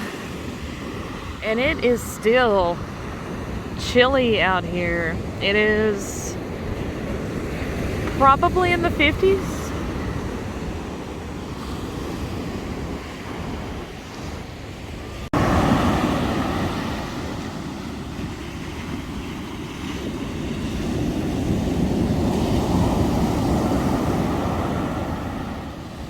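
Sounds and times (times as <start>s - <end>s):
ocean surf breaking on shore: 0.0s - 26.0s
wind buffeting microphone: 0.0s - 26.0s.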